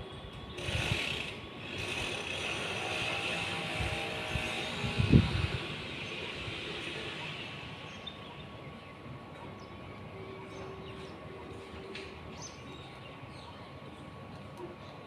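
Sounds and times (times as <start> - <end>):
outdoor background wash: 0.0 - 15.0.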